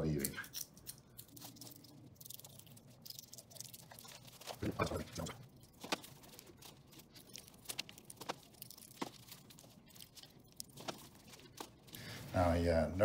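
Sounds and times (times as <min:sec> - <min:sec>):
faint crinkles and ticks: 0:00.2 - 0:12.4.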